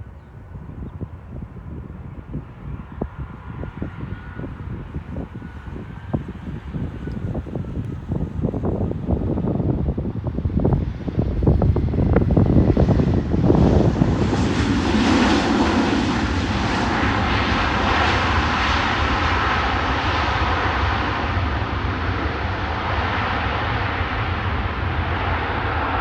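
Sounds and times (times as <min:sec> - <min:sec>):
jet engines whining roar: 0:01.3 - 0:26.0.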